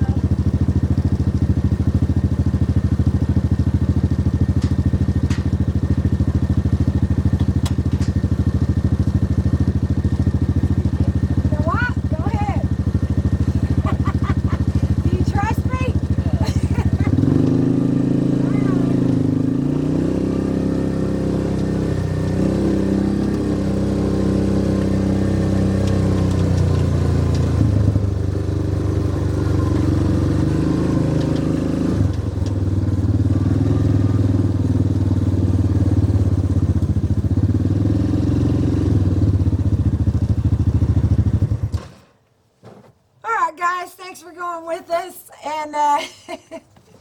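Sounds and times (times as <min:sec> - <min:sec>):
utility vehicle engine running: 0:00.0 - 0:42.2.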